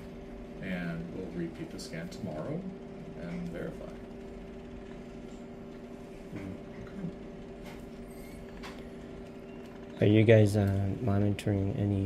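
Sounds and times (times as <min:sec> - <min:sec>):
low hum of room equipment: 0:00.0 - 0:12.0.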